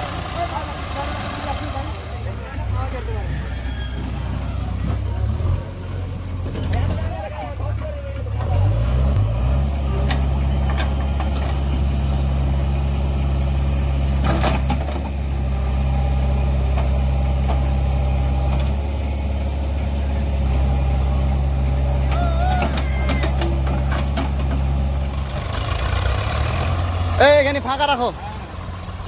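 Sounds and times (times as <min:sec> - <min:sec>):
heavy diesel engine revving: 0:00.0 - 0:29.0.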